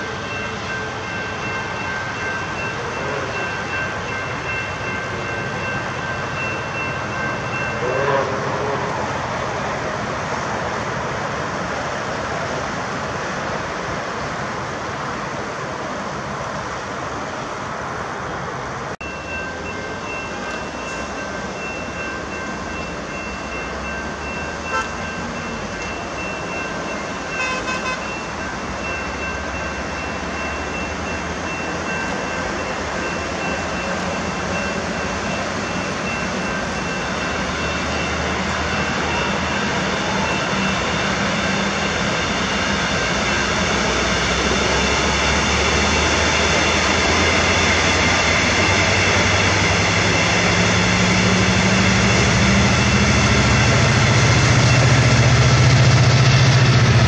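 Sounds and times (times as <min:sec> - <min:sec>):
road traffic roar: 0:00.0 - 0:57.0
train approaching: 0:00.0 - 0:57.0.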